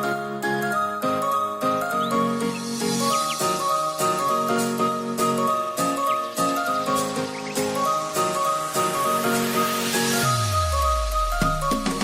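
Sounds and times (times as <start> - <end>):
instrumental tune: 0.0 - 12.0.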